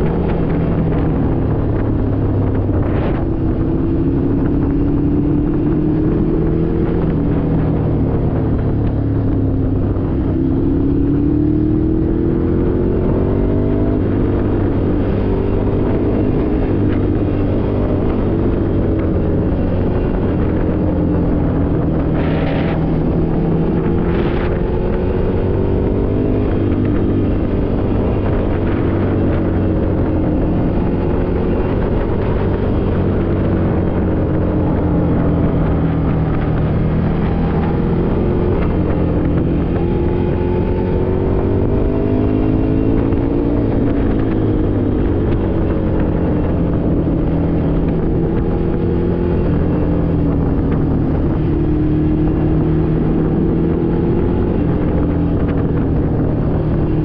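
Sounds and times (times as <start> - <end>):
motorcycle engine accelerating: 0.0 - 57.0
wind noise on microphone: 0.0 - 57.0.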